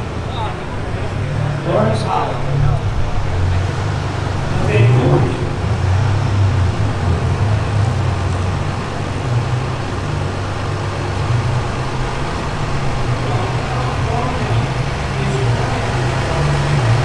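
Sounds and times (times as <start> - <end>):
street noise: 0.0 - 17.0
vehicle engine idling: 0.0 - 17.0.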